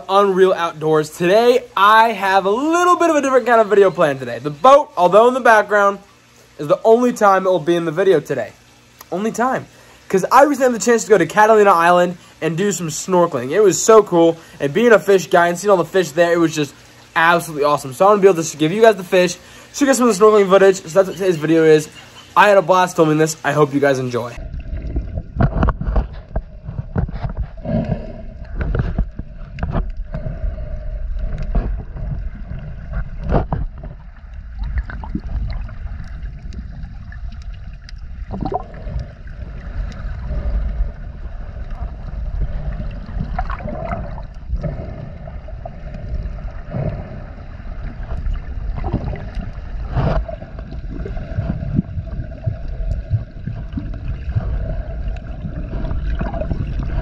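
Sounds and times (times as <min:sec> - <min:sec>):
muffled underwater sloshing: 0:08.6 - 0:57.0.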